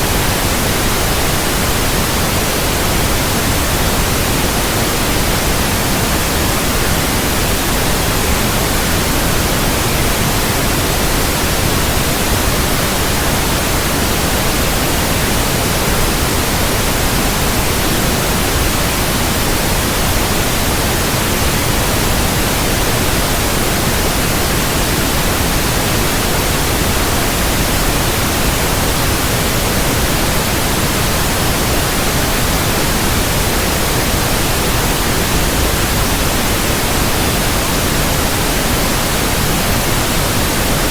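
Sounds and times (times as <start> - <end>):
steady white noise: 0.0 - 40.9.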